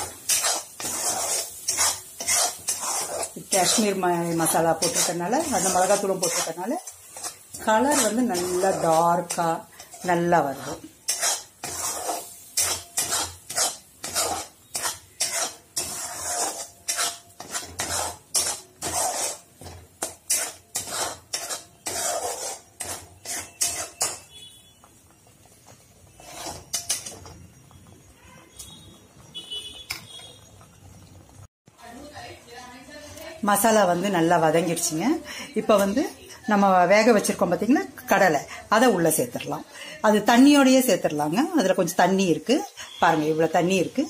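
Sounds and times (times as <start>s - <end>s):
spoon scraping a metal pan: 0.0s - 24.7s, 25.7s - 27.8s, 33.0s - 44.0s
paste sauteing: 0.0s - 44.0s.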